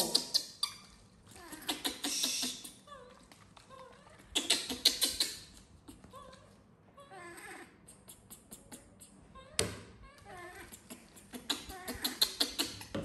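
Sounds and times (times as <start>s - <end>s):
baby monkey whimpering squeaks: 0.0s - 6.4s, 7.0s - 13.0s.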